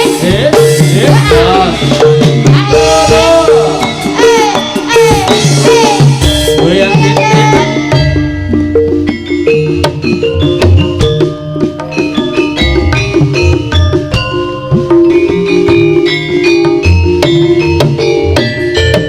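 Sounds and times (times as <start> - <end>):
drums: 0.0 - 19.0
wavering bending melody: 0.0 - 19.0.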